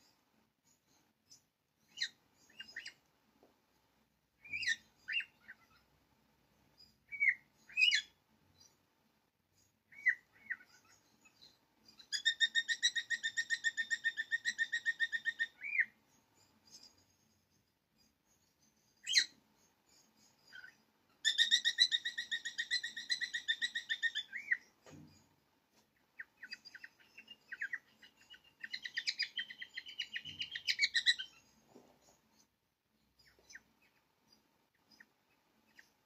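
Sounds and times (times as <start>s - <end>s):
bird chirping: 0.0s - 3.1s, 4.4s - 36.0s.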